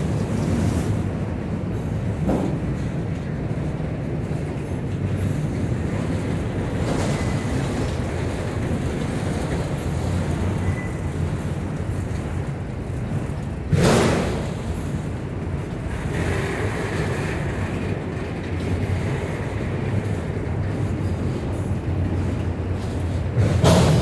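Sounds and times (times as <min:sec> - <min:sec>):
freight train wheels rumbling on rail: 0:00.0 - 0:24.0.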